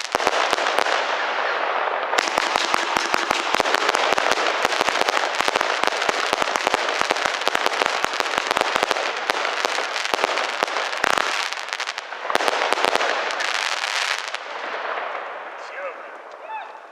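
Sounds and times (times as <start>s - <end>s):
fireworks crackling bangs: 0.0s - 16.5s.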